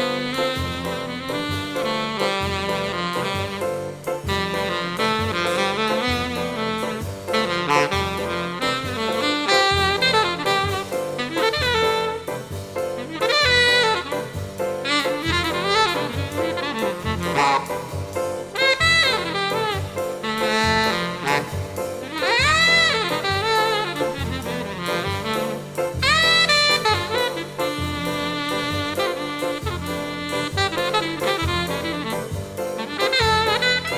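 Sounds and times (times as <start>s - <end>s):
drum kit: 0.0s - 33.9s
saxophone melody: 0.0s - 33.9s.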